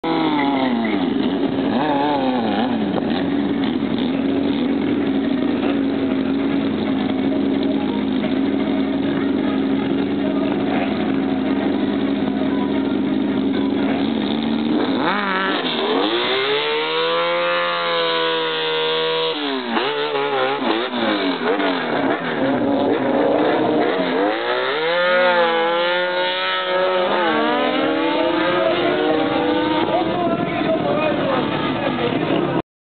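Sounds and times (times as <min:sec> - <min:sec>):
motorcycle engines revving: 0:00.0 - 0:32.6
motorcycles accelerating through gears: 0:00.0 - 0:32.6.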